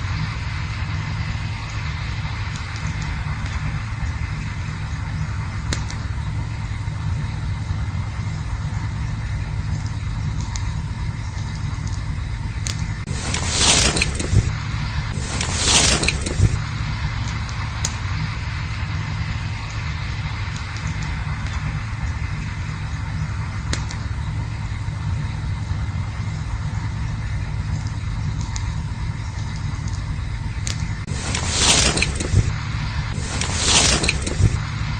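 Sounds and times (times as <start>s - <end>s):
campfire rumble and hiss: 0.0s - 34.9s
wood crackling: 0.0s - 34.9s.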